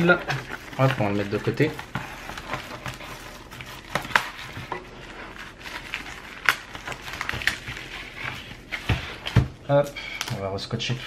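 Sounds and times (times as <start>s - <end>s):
plastic packaging sleeve rustling: 0.0s - 11.0s.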